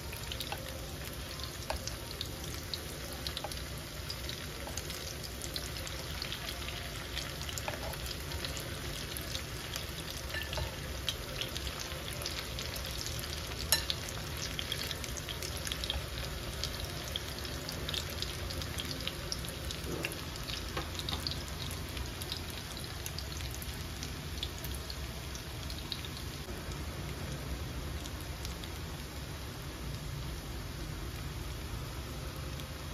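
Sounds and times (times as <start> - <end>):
fritters sizzling in oil: 0.0 - 32.9.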